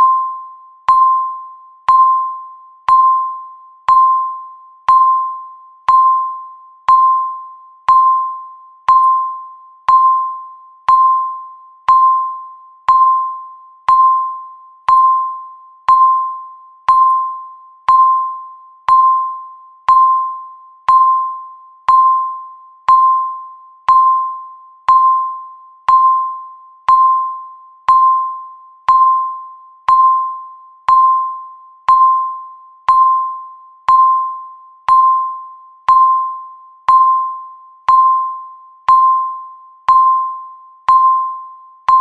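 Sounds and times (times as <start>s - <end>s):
timer beeping: 0.0s - 42.0s.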